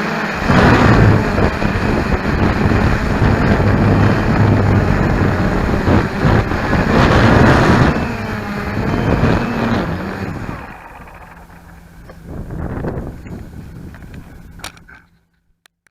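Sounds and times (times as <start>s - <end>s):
quadcopter motors humming: 0.0s - 15.2s
wind buffeting microphone: 0.4s - 14.9s.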